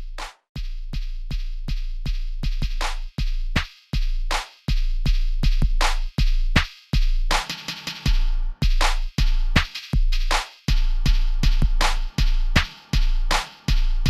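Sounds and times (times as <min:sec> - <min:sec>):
electronic music with drum-machine beat: 0:00.0 - 0:14.0.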